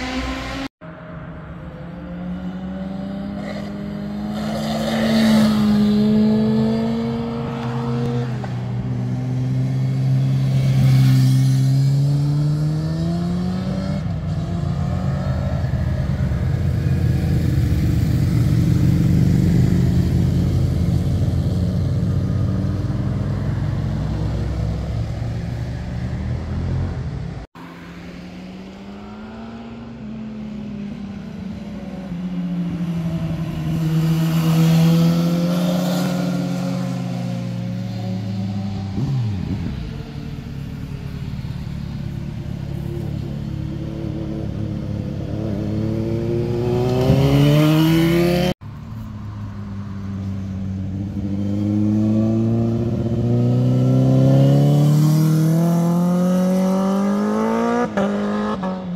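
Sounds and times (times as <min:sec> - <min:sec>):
motorcycle passing with low rumble: 0:00.0 - 0:58.9
quieter engine approaching: 0:00.0 - 0:58.9
motorcycle accelerating through gears: 0:01.9 - 0:48.6, 0:50.2 - 0:58.9.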